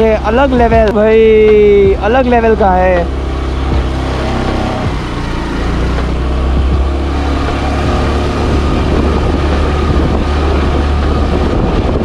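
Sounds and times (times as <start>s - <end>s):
motorcycle engine under load: 0.0s - 12.0s
wind on microphone: 0.0s - 12.0s.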